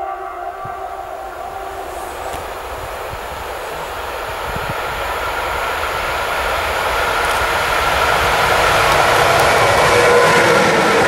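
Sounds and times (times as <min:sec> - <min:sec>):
freight train rumbling on rails: 0:00.0 - 0:11.0
locomotive whine: 0:00.0 - 0:11.0.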